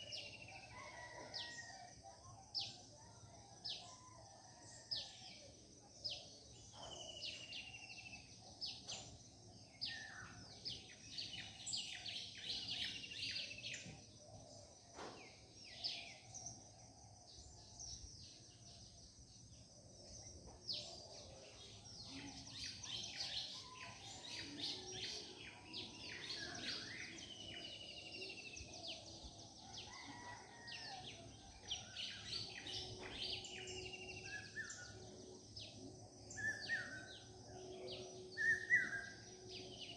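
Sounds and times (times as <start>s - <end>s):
birds singing and chirping: 3.6s - 18.9s, 20.1s - 39.9s.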